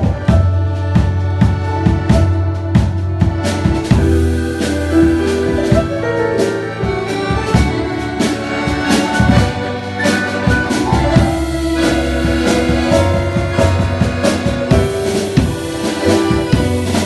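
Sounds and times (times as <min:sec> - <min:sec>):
accordion playing a tango: 0:00.0 - 0:17.0.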